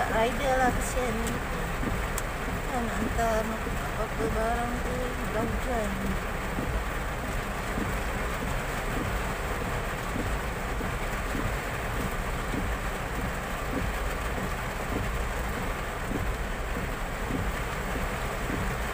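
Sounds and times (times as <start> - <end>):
heavy rain on car roof: 0.0 - 18.9.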